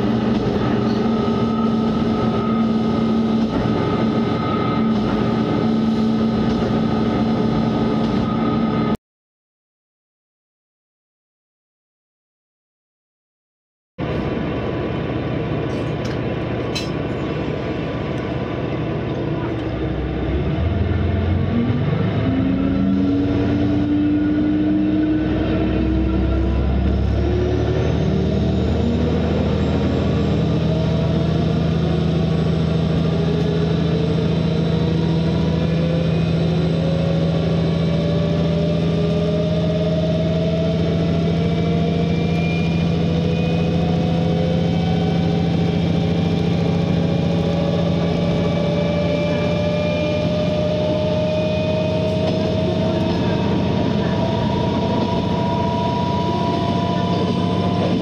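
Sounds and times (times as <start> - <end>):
diesel railcar engine droning: 0.0 - 9.0, 14.0 - 58.0.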